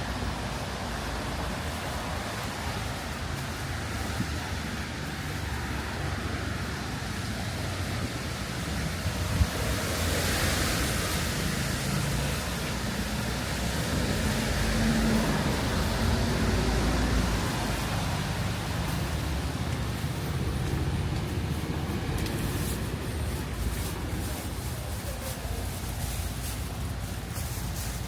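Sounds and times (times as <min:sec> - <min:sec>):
low engine hum: 0:00.0 - 0:28.0
vehicle tyre hiss: 0:00.0 - 0:28.0.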